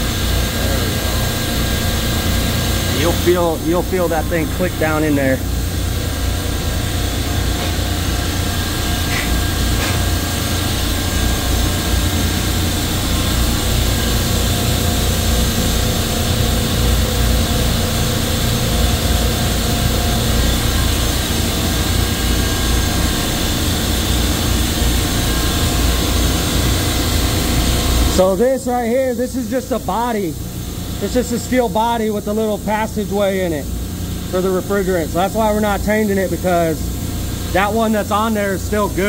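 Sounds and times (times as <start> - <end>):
refrigeration compressors droning: 0.0 - 39.0.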